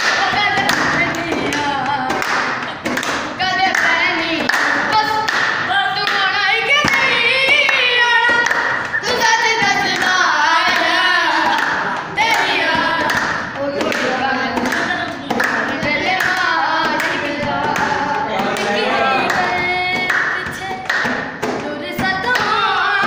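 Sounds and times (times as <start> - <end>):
clapping: 0.0 - 9.0, 9.9 - 21.7
boys singing together: 0.0 - 23.0.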